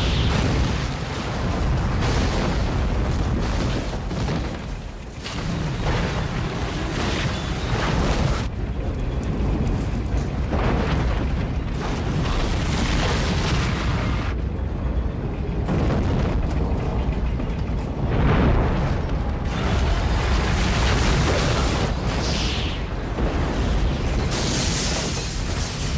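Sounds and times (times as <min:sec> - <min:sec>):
deep rumble: 0:00.0 - 0:24.4.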